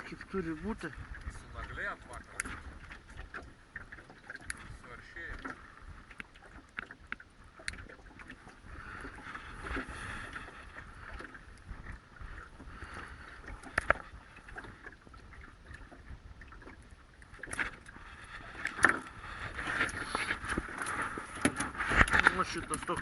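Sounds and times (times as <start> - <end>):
water: 0.0 - 23.0
wind: 0.0 - 23.0.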